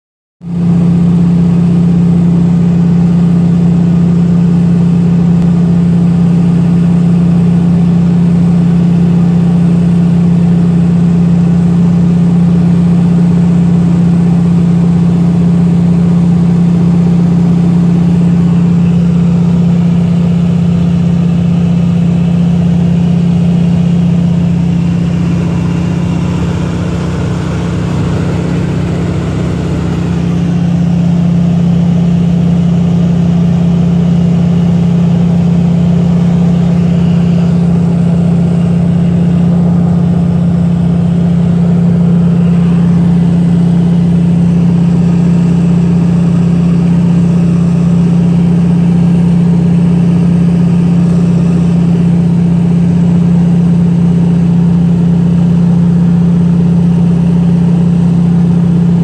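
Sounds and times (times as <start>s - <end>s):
airplane engine drone in cabin: 0.4s - 59.0s.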